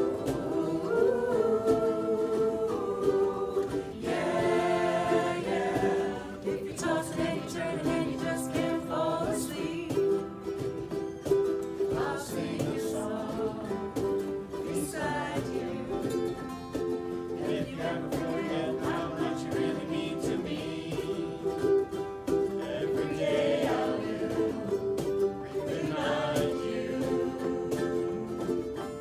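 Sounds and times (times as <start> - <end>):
choir singing a pop song: 0.0 - 10.6, 11.7 - 16.5, 17.2 - 29.0
strummed ukuleles: 0.0 - 29.0.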